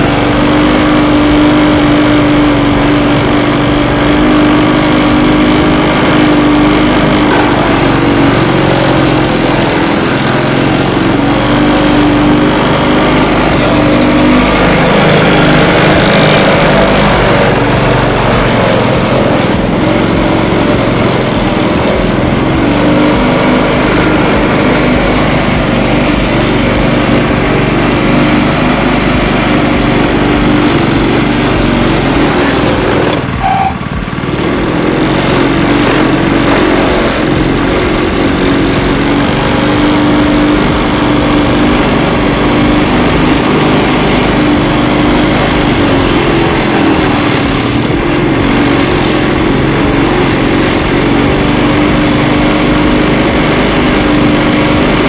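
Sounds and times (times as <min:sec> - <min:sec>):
grass chopper running: 0:00.0 - 0:55.0.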